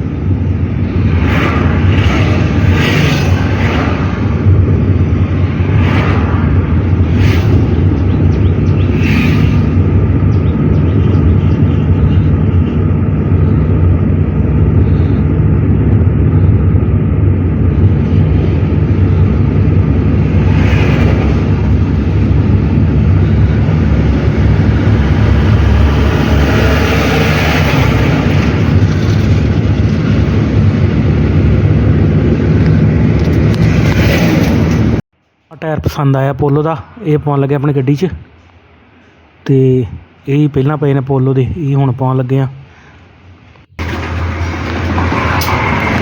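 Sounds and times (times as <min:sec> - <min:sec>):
car engine drone: 0:00.0 - 0:35.1, 0:42.6 - 0:46.0
road noise: 0:00.0 - 0:35.2, 0:37.8 - 0:46.0.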